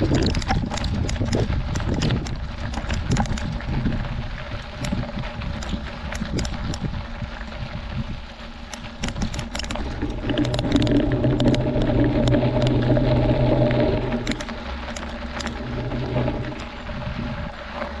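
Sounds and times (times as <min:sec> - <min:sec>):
bike tyres crunching on gravel: 0:00.0 - 0:18.0
steady buzzing hum: 0:00.0 - 0:18.0
stones and bike rattling: 0:00.0 - 0:18.0.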